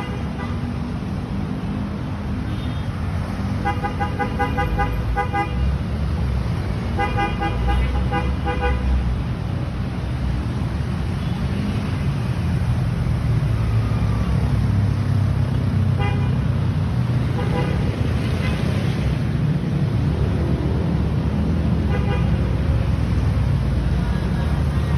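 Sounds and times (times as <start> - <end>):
street traffic rumble: 0.0 - 24.9.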